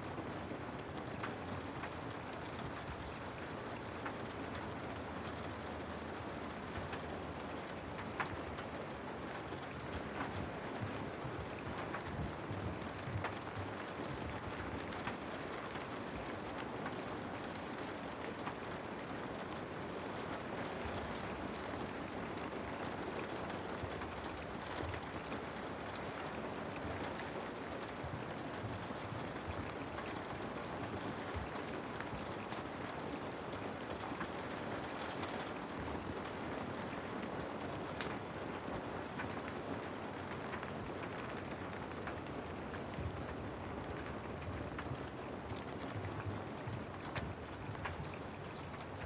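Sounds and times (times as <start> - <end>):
raindrops ticking: 0.0 - 49.0
steady rain hiss: 0.0 - 49.0.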